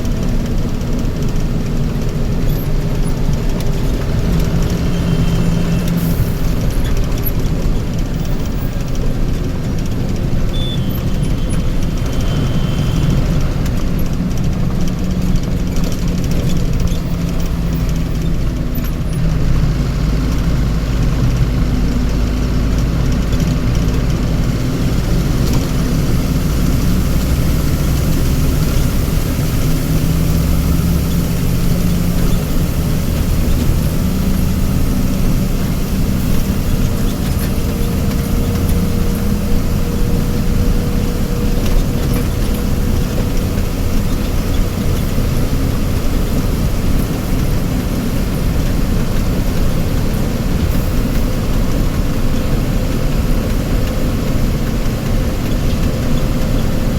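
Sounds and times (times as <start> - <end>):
heavy vehicle engine rumbling: 0.0 - 56.9.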